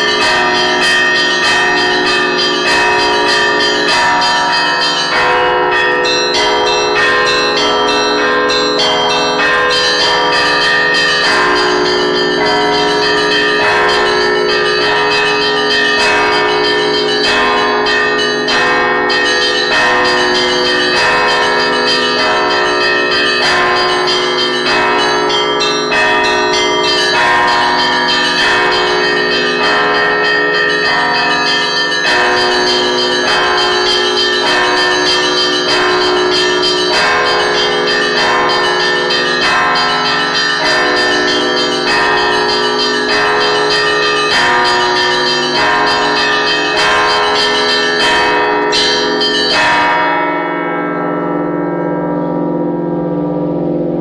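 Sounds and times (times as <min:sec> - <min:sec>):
small bells chiming: 0:00.0 - 0:51.4
lingering hum of bells: 0:00.0 - 0:54.0.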